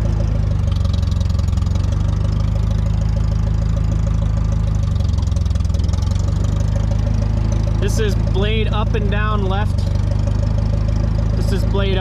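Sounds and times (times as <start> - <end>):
grader engine idling: 0.0 - 12.0.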